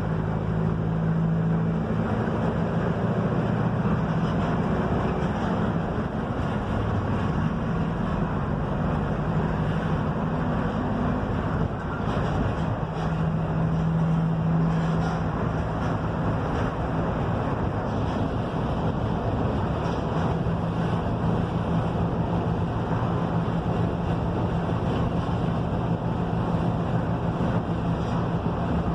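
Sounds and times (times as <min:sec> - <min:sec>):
bus diesel engine running: 0:00.0 - 0:28.9
road and wind noise: 0:00.0 - 0:28.9.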